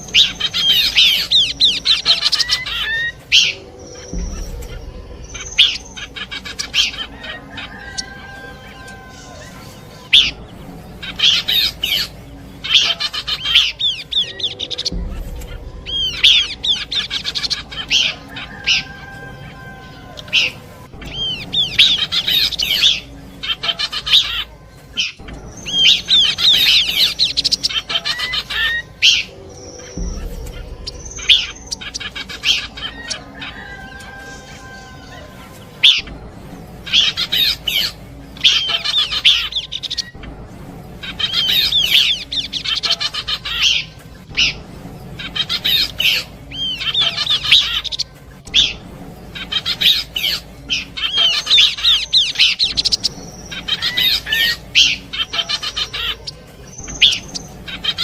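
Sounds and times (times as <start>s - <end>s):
recorded bird chirping and whistling: 0.0s - 40.4s, 41.0s - 58.0s.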